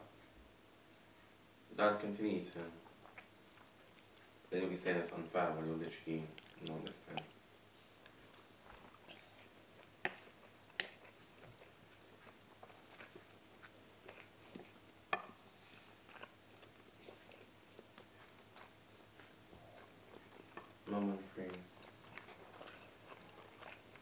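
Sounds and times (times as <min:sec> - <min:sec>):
faint chewing: 0:02.0 - 0:24.0.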